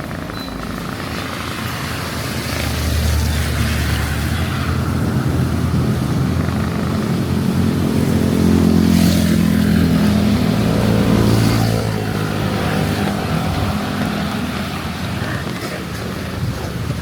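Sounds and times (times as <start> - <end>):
vehicle engine passing on wet street: 0.0 - 17.0.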